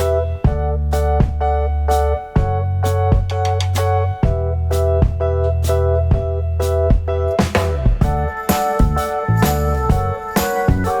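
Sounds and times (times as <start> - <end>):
heavy bass with steady beat: 0.0 - 11.0
keyboard melody: 0.0 - 11.0.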